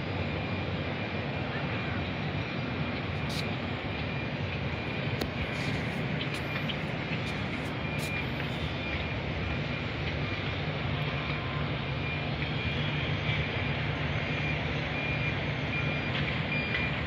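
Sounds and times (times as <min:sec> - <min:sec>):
distant traffic rumble: 0:00.0 - 0:17.0
site machinery rumble: 0:00.0 - 0:17.0
reversing alarm beeping: 0:00.1 - 0:17.0.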